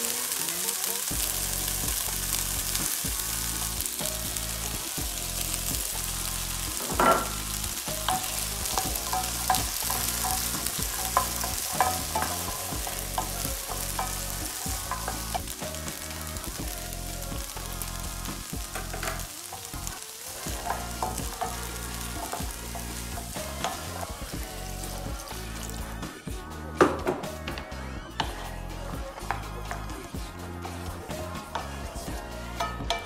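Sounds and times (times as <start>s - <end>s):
food sizzling in frying pan: 0.0s - 27.4s, 28.1s - 33.0s.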